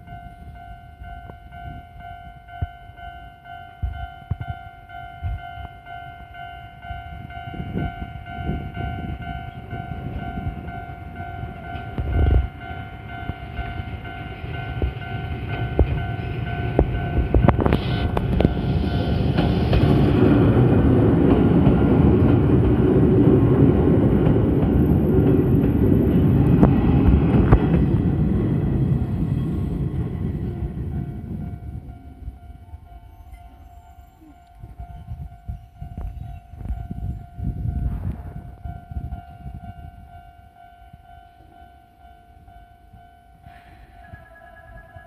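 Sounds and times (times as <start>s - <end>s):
electric train rumbling past: 0.0s - 45.0s.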